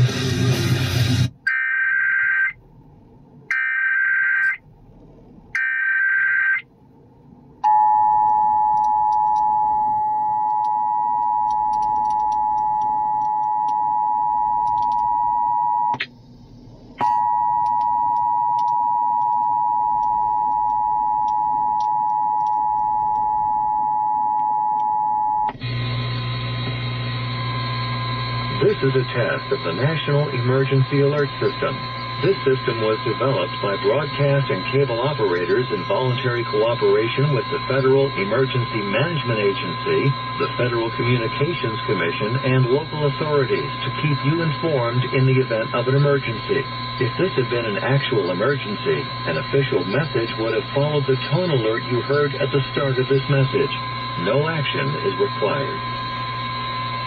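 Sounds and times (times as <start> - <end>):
low hum: 4.5 - 5.6, 6.6 - 57.0.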